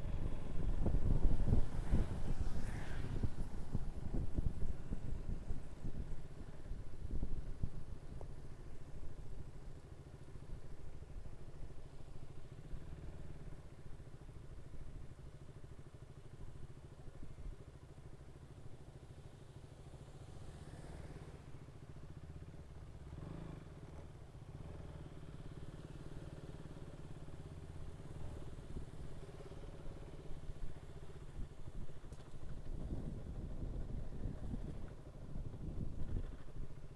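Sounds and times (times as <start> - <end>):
motorcycle engine and road rumble: 0.0 - 36.9.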